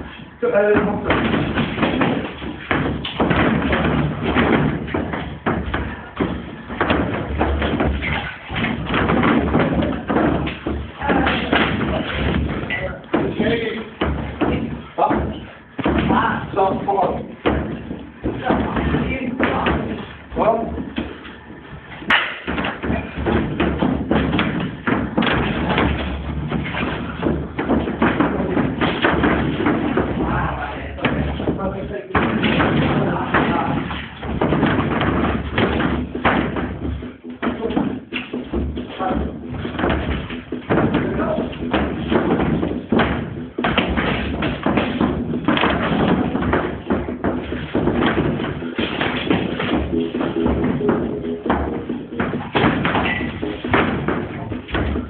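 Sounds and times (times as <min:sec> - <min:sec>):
feet moving on gym floor: 0:00.0 - 0:55.0
gym background noise: 0:00.0 - 0:55.0
strikes landing: 0:00.0 - 0:55.0.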